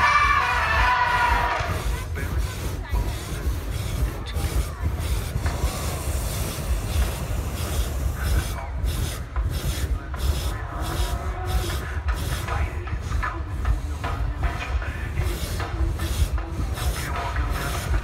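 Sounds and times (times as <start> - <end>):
propane burner roaring: 0.0 - 18.0.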